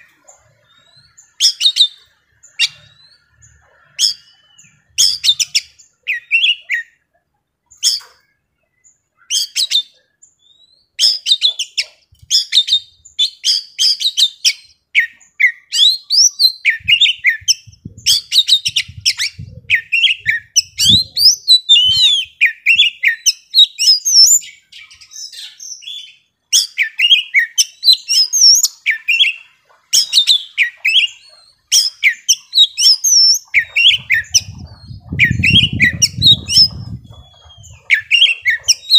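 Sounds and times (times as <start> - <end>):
bird singing whistles and chatters: 0.0 - 7.0, 7.7 - 38.9.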